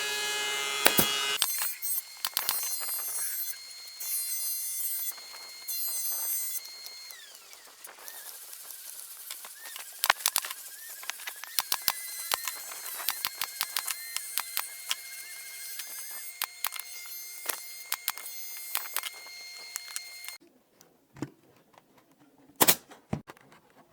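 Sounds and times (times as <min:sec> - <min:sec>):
electric tool motor running: 0:00.0 - 0:20.4.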